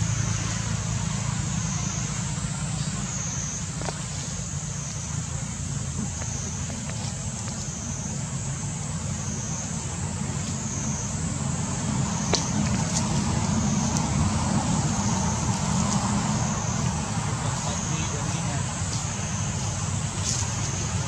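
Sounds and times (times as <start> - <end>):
high pulsing buzz: 0.0 - 21.0
low engine rumble: 0.0 - 21.0.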